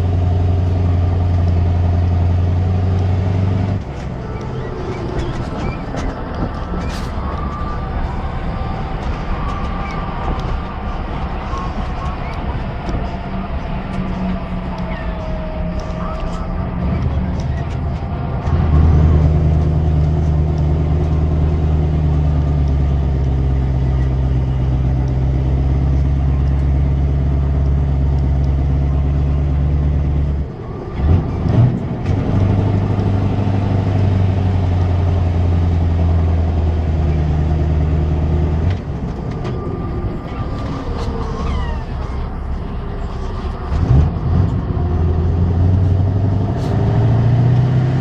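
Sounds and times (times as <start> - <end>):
truck engine revving loud: 0.0 - 48.0.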